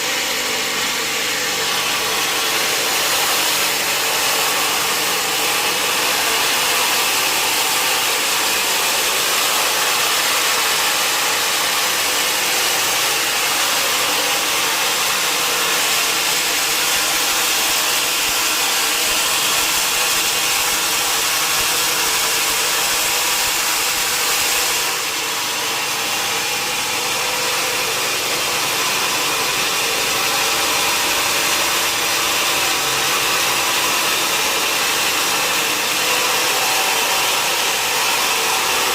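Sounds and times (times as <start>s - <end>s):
sawmill saw cutting log: 0.0s - 38.9s.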